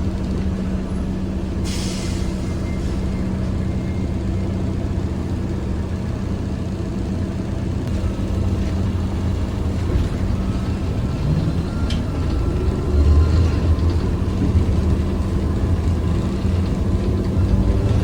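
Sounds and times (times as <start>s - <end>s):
trolleybus rumble: 0.0s - 18.0s.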